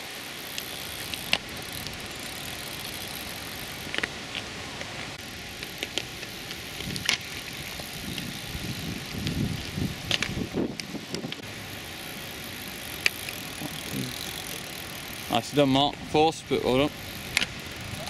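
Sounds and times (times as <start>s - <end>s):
bicycle clicks and rattles: 0.0s - 18.0s
outdoor hiss: 0.0s - 18.0s.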